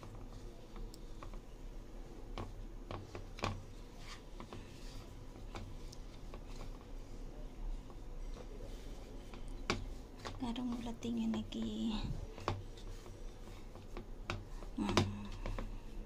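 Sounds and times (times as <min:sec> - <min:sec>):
dough squishing in a bowl: 0:00.0 - 0:16.0.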